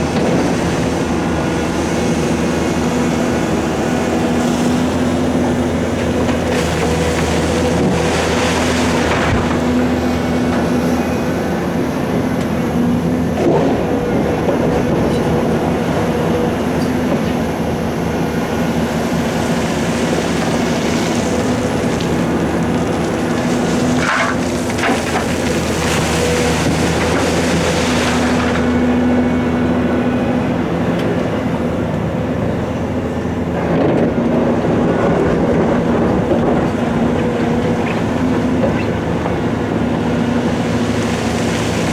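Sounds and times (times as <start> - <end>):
heavy diesel engines running: 0.0 - 41.9.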